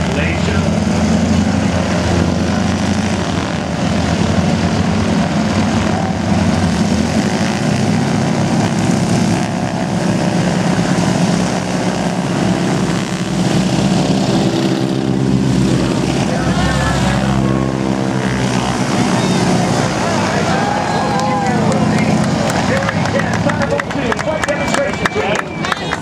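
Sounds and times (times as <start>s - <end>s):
propeller airplane engine: 0.0s - 26.0s.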